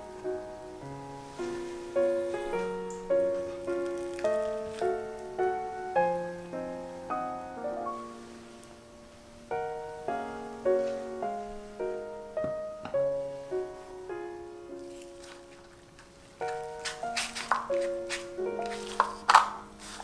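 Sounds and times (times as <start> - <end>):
gentle solo piano: 0.0 - 20.0.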